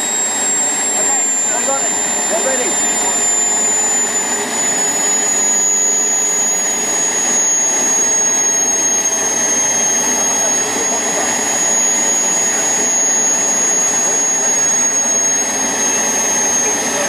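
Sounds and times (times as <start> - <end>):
high whine: 0.0 - 17.0
small gas turbine running: 0.0 - 17.0.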